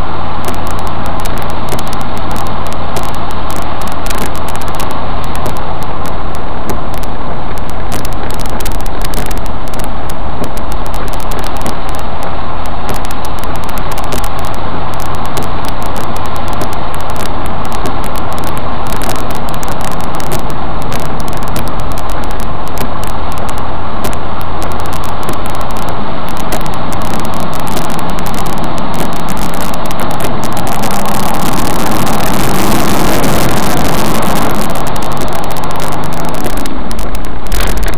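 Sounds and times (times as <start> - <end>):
car engine and road noise: 0.0 - 37.9
constant crackle: 0.0 - 37.9.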